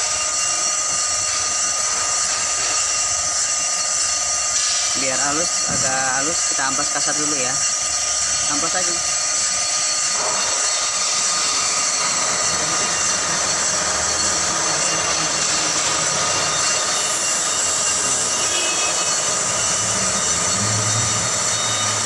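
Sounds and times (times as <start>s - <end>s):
sandpaper hissing on spinning disc: 0.0s - 22.0s.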